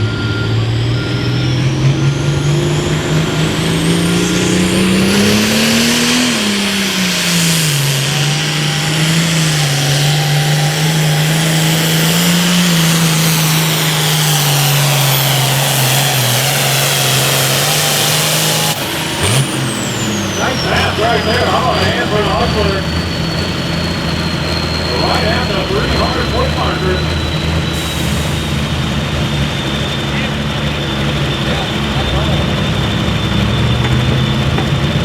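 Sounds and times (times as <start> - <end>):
diesel tractor engine under load: 0.0 - 35.0
reversing beeper: 0.0 - 35.0
turbo whine: 0.0 - 35.0.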